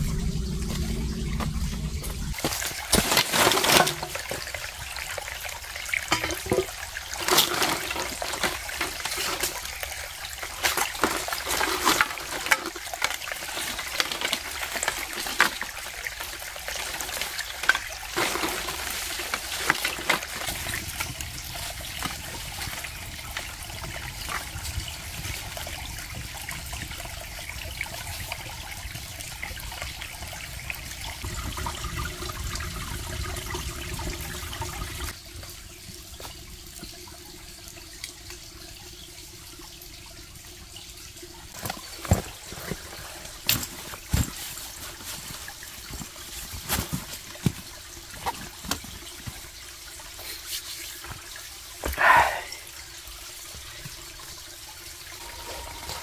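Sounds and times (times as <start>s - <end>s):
rain: 0.0s - 56.0s.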